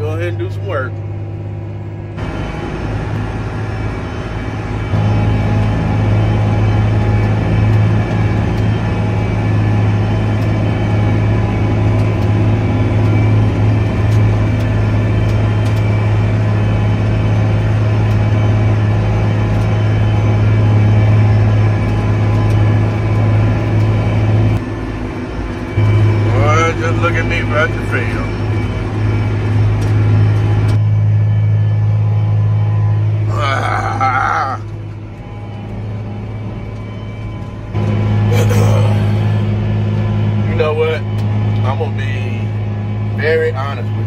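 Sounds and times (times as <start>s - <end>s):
tractor diesel engine droning: 0.0s - 44.0s.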